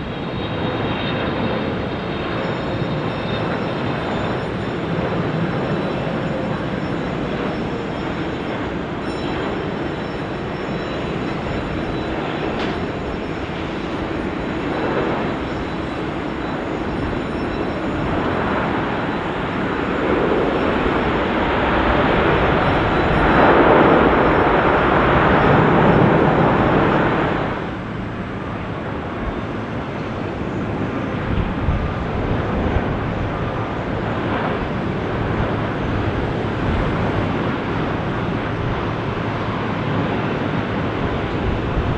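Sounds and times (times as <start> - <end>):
jet airliner landing: 0.0 - 41.9.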